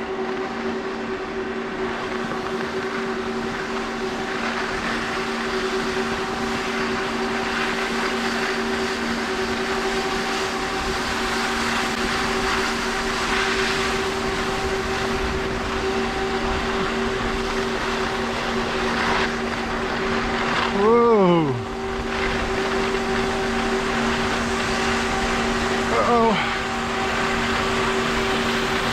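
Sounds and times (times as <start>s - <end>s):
steady mechanical hum: 0.0s - 28.9s.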